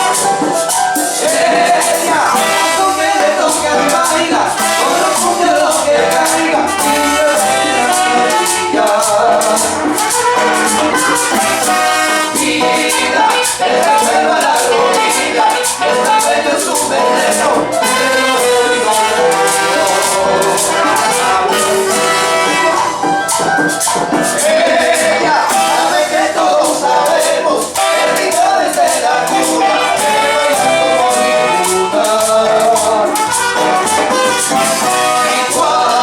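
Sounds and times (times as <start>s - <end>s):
latin dance band playing: 0.0s - 36.0s
percussion beat: 0.0s - 36.0s
person singing: 0.0s - 36.0s.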